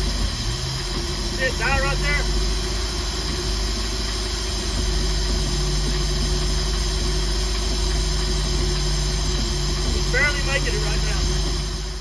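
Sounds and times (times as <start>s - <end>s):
boat engine idling roughly: 0.0s - 12.0s.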